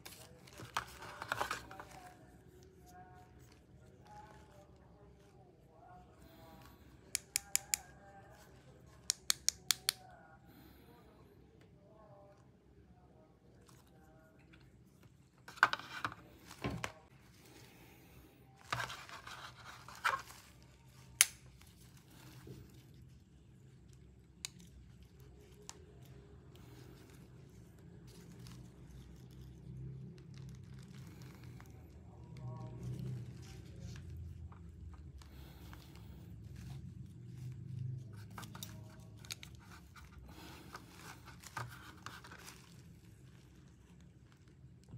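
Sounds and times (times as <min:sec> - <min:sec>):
soft handling rustles: 0:00.0 - 0:09.1, 0:13.4 - 0:44.9.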